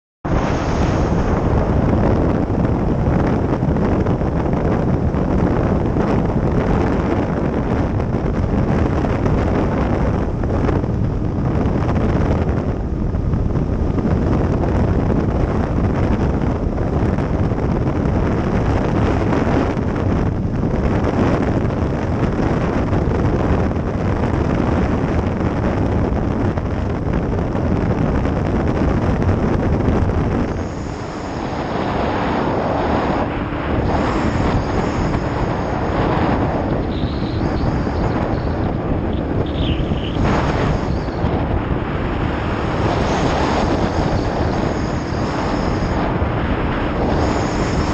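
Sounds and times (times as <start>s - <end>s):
wind rush on microphone: 0.2s - 47.9s
motorcycle engine cruising: 0.4s - 47.9s.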